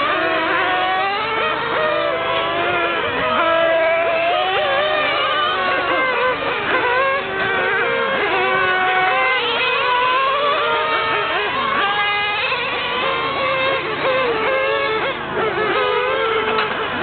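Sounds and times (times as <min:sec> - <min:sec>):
small model car engines revving: 0:00.0 - 0:17.0.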